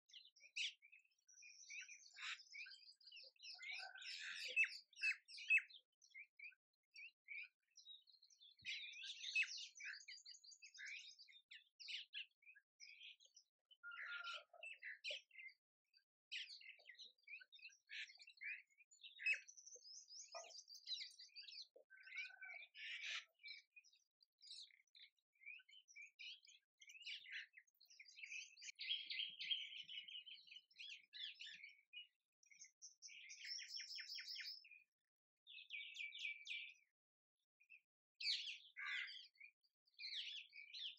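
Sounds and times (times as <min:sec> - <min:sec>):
bird trill: 0:00.0 - 0:15.6, 0:16.3 - 0:34.8, 0:38.2 - 0:39.4
small birds chirping: 0:00.0 - 0:40.9.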